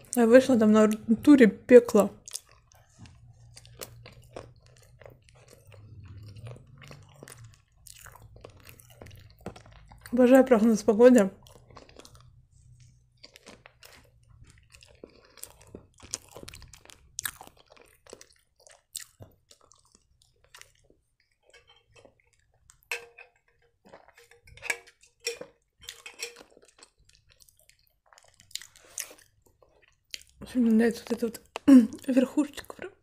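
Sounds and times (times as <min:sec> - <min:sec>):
person chewing: 0:02.0 - 0:33.0.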